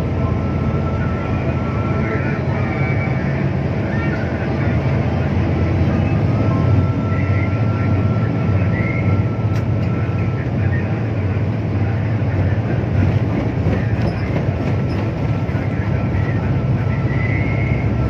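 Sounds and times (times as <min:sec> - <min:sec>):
vehicle traffic rumble: 0:00.0 - 0:18.0.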